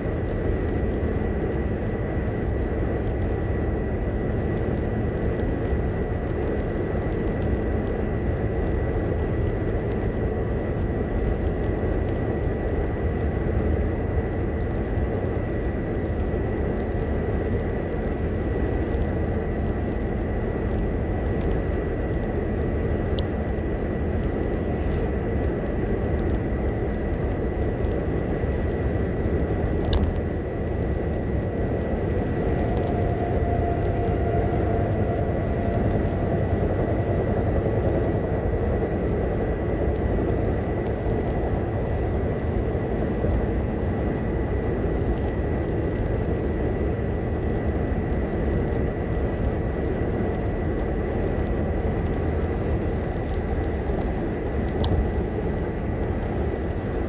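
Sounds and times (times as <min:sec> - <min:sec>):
car road and tyre noise: 0:00.0 - 0:57.0.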